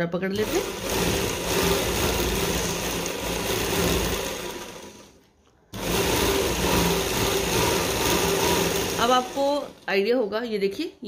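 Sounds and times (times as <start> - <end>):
electric sewing machine running: 0.4 - 9.9.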